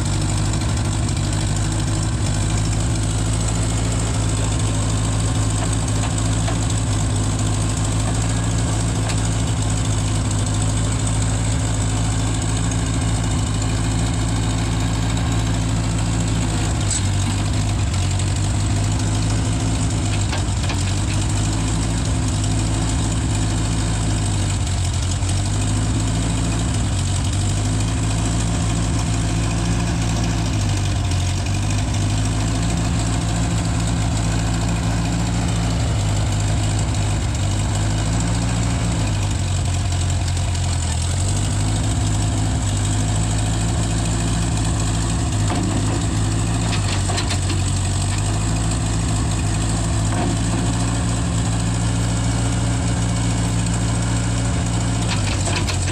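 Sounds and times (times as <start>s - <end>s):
skid steer engine idling: 0.0s - 55.9s.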